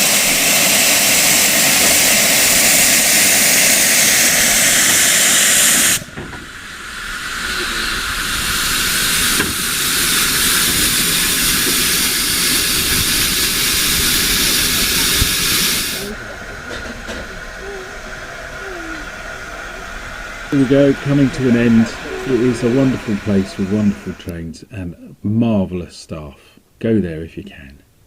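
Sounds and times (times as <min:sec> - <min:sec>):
steam locomotive hissing: 0:00.0 - 0:24.6.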